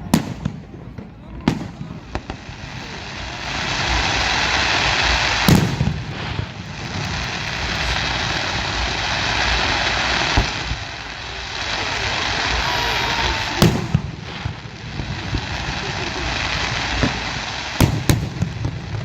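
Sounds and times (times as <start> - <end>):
fireworks crackling: 0.0 - 19.0
sharp firework bangs: 0.0 - 19.0.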